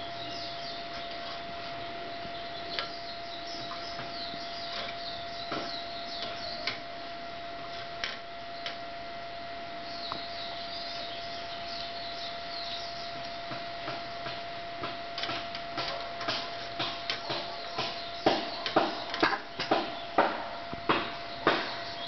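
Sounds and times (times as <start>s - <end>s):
birds chirping: 0.0s - 22.0s
high-pitched hum: 0.0s - 22.0s.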